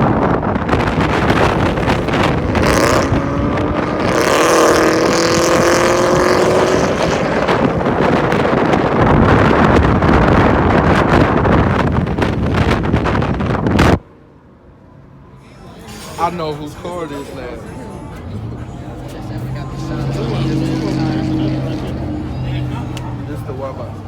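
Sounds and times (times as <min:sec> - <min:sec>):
car engine revving: 0:00.0 - 0:14.0, 0:15.2 - 0:24.0.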